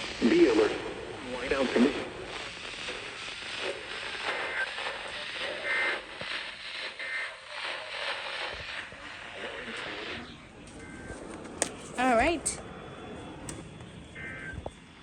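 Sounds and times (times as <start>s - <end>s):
radio static: 0.0s - 12.6s, 14.2s - 14.8s.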